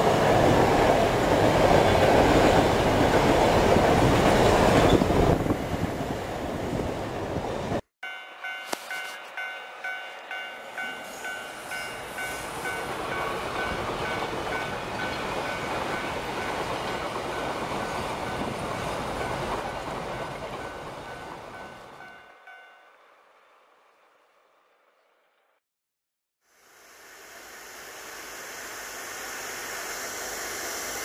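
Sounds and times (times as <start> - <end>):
train plowing snow rushing: 0.0 - 22.8, 27.1 - 31.0.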